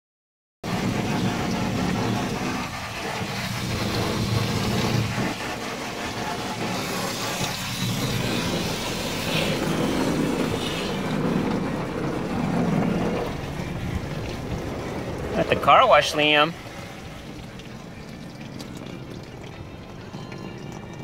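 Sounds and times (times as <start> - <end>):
car wash water and brushes: 0.6 - 21.0.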